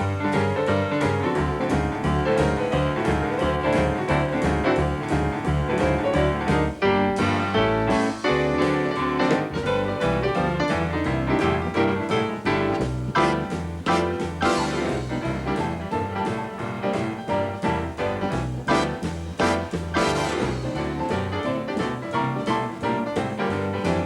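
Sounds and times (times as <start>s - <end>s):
solo blues piano: 0.0s - 24.0s.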